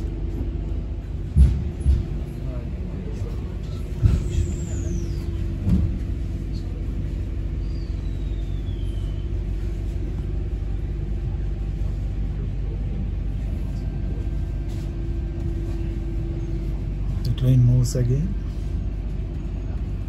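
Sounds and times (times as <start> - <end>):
train carriage rumble and hum: 0.0 - 20.0.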